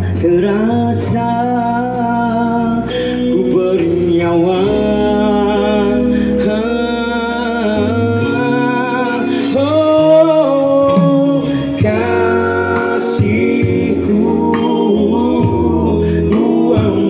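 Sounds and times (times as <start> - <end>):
live band playing pop ballad: 0.0 - 17.0.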